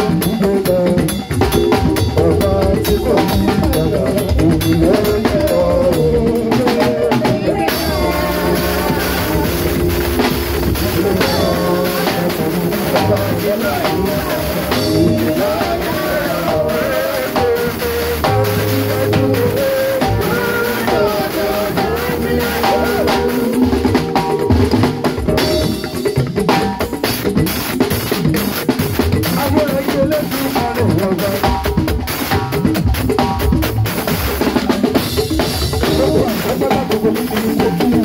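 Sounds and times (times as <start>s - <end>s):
church band music: 0.0s - 38.0s
drum kit hits: 0.0s - 38.0s.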